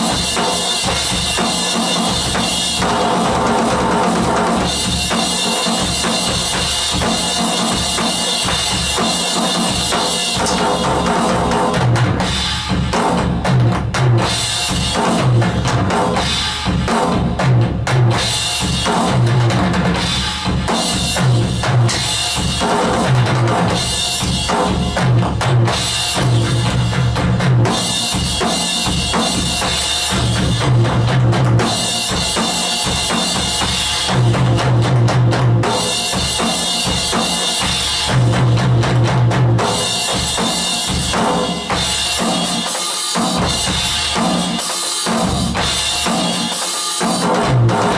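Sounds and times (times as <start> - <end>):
electronic drum kit beat: 0.0 - 47.9.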